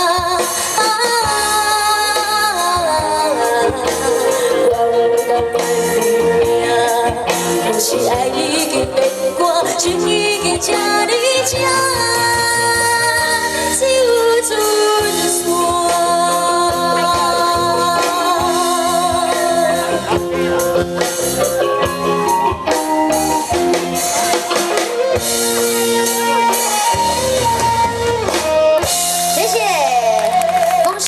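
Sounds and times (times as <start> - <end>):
live band music: 0.0 - 31.0.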